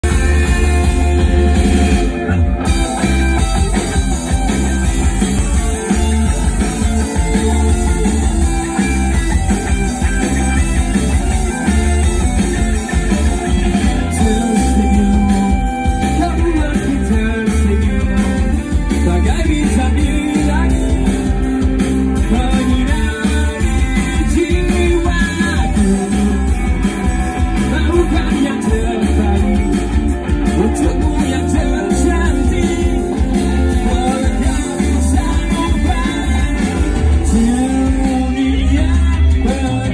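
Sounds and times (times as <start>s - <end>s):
drums: 0.0s - 39.9s
electric bass guitar: 0.0s - 39.9s
electric guitars: 0.0s - 39.9s
rock band playing live: 0.0s - 39.9s.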